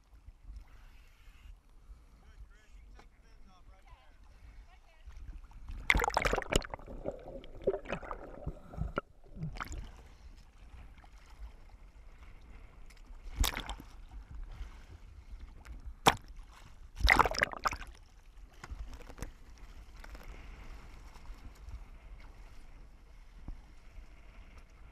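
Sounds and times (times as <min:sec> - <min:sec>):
water splashing and sloshing: 0:04.2 - 0:24.9.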